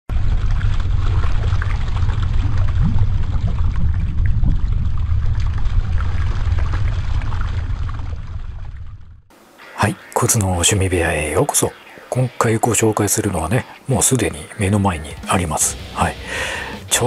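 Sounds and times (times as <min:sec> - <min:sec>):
low rumble with hiss: 0:00.1 - 0:17.0.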